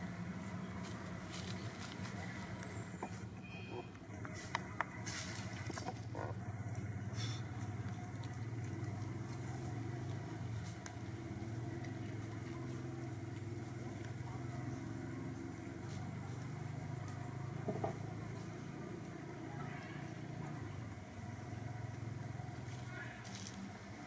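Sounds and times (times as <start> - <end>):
motor idling hum: 0.0 - 24.0.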